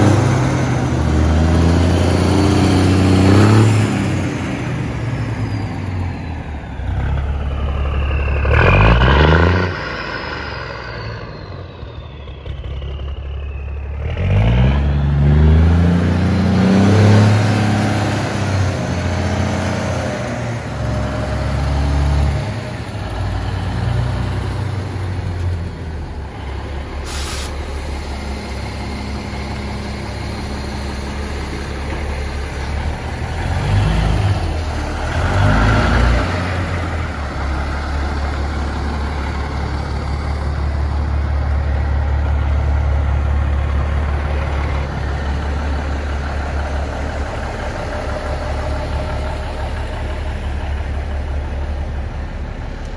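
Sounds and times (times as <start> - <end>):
bus engine idling: 0.0 - 8.8, 14.8 - 52.9.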